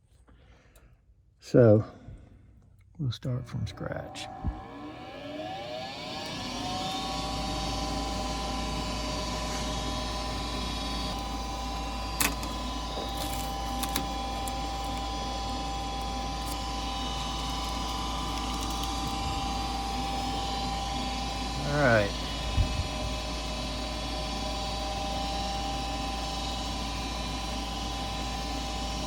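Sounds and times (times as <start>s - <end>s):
furnace motor whine over hum: 3.3s - 29.0s.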